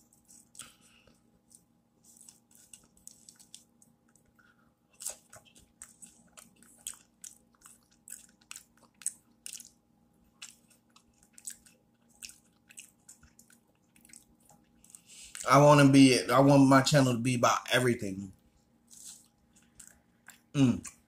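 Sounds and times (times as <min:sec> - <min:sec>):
man chewing food: 0:00.0 - 0:15.5, 0:18.3 - 0:21.0.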